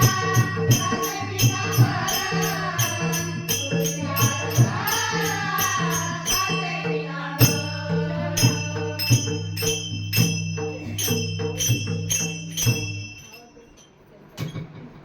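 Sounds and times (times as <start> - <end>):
hand drum beat: 0.0 - 13.2
wavering devotional melody: 0.0 - 13.9
jingling hand percussion: 0.0 - 14.8.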